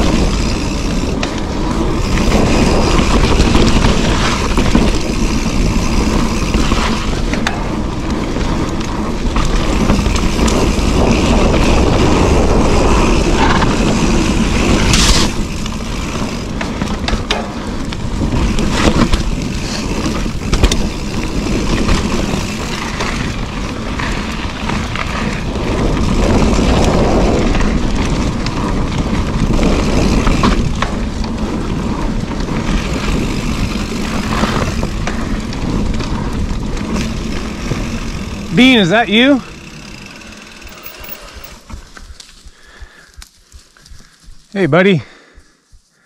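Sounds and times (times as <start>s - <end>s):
wind rumble on microphone: 0.0s - 44.4s
bike rattling and clicking: 0.0s - 45.8s
bike tyres rolling over dirt: 0.0s - 46.0s.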